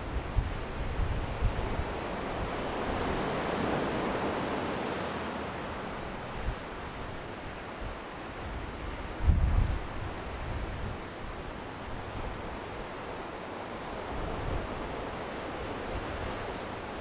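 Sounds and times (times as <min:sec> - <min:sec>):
sea waves on rocky shore: 0:00.0 - 0:17.0
wind gusts bumping microphone: 0:00.0 - 0:17.0.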